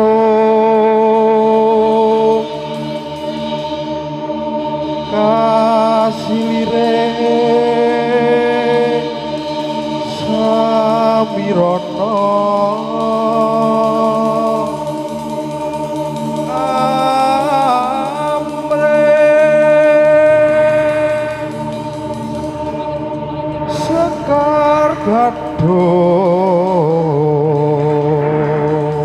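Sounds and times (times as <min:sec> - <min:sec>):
sung chant with wavering notes: 0:00.0 - 0:29.0.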